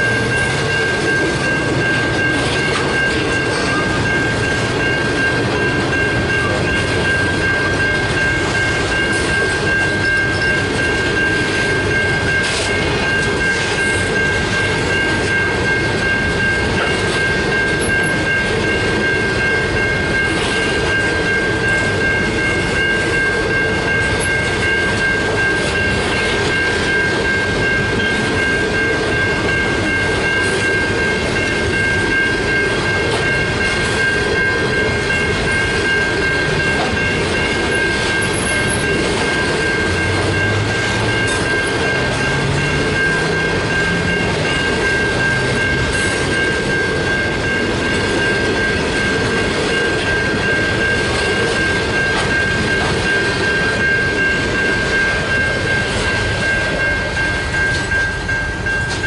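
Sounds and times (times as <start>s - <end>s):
level crossing bell ringing: 0.0s - 59.0s
train wagons rumbling on rails: 0.0s - 59.0s.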